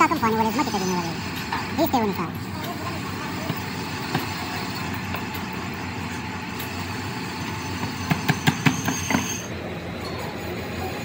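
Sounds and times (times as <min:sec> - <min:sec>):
mechanical background noise: 0:00.0 - 0:11.0.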